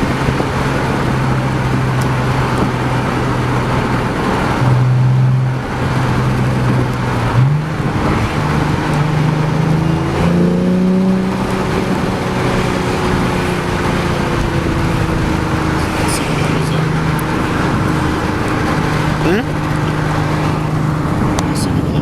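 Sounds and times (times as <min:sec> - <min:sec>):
car exhaust droning while driving: 0:00.0 - 0:22.0.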